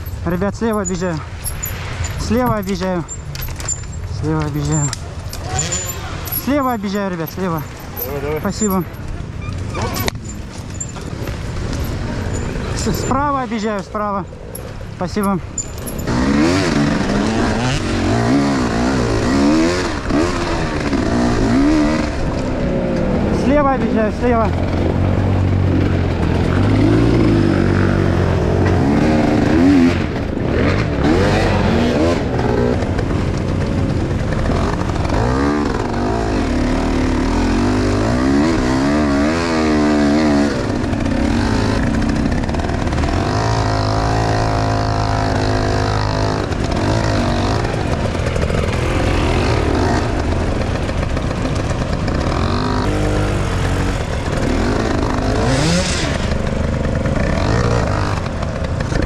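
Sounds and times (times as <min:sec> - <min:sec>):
motorcycle engine revving: 0:00.0 - 0:59.0
other motorcycle engines: 0:00.0 - 0:59.0.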